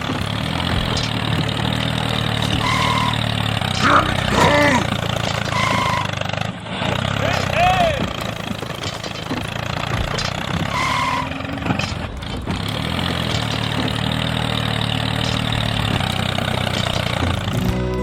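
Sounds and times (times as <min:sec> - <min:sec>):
small model tractor motor running: 0:00.0 - 0:18.0.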